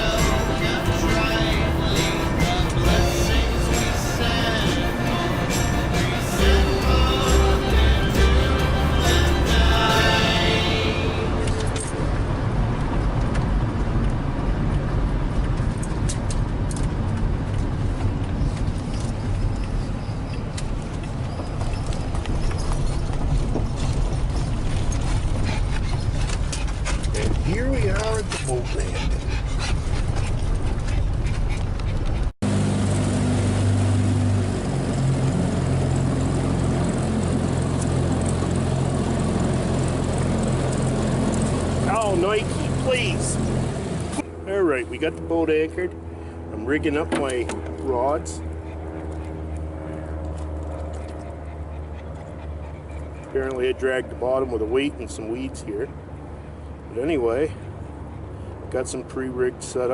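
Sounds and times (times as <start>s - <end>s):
vehicle road and engine rumble: 0.0s - 59.9s.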